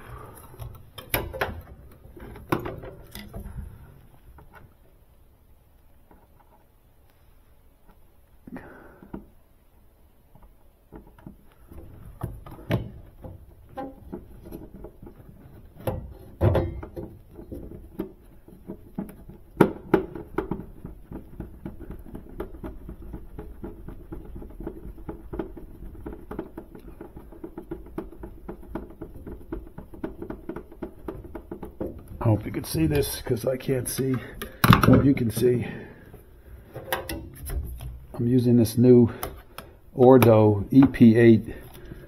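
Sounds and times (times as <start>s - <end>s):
hand tools clicking and knocking: 0.0s - 4.7s, 10.4s - 42.0s.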